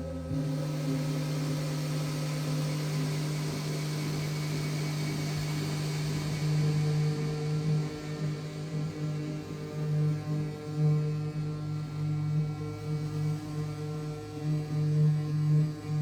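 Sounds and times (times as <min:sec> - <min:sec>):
low synthesizer drone: 0:00.0 - 0:15.9.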